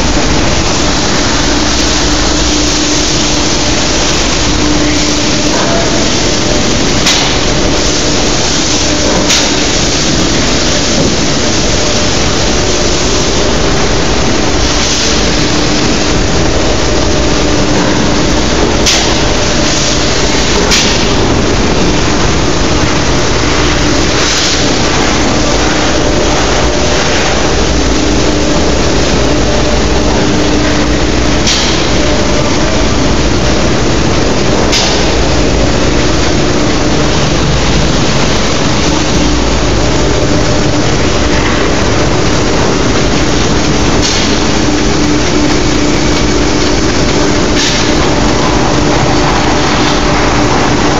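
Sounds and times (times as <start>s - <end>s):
punch press machine noise: 0.0s - 50.9s.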